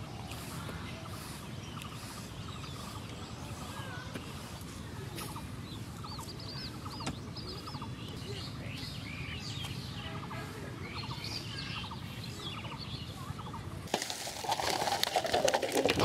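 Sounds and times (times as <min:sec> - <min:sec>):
open-air background hiss: 0:00.0 - 0:15.8
birds chirping: 0:00.0 - 0:16.0.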